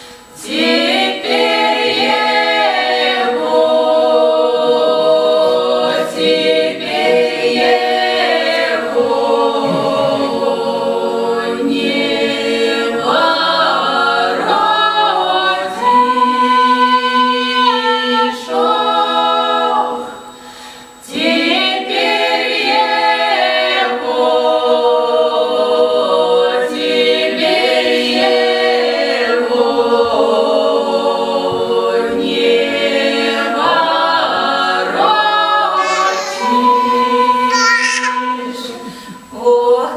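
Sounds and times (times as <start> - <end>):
folk choir singing a cappella: 0.0 - 39.9.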